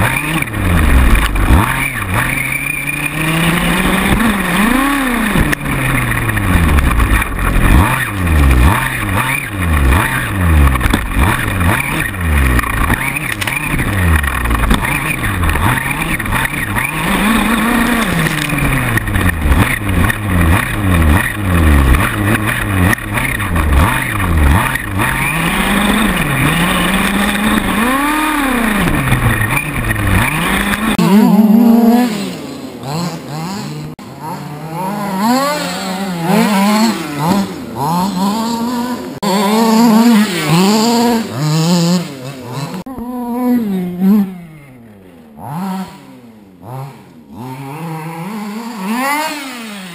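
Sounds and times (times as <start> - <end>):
rc buggy two-stroke engine revving: 0.0 - 49.9.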